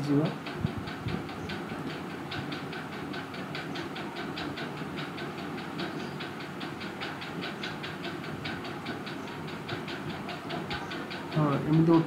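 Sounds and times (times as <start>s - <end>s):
rapid even ticking: 0.0s - 12.0s
steady low hum: 0.0s - 12.0s.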